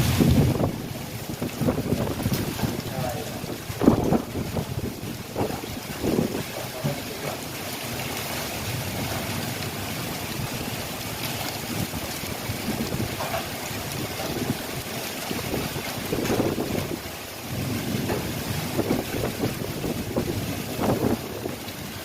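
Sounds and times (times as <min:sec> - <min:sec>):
heavy rain hissing: 0:00.0 - 0:22.0
wind rumbling on microphone: 0:00.0 - 0:22.0.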